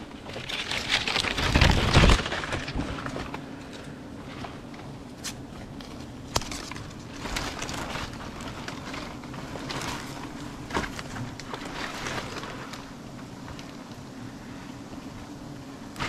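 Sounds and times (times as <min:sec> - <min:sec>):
honeybees buzzing: 0:00.0 - 0:16.0
rustling: 0:00.2 - 0:16.0.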